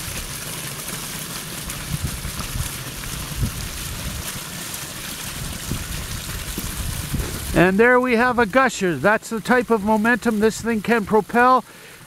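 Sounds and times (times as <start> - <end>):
water gushing from outlet pipe: 0.0 - 12.0.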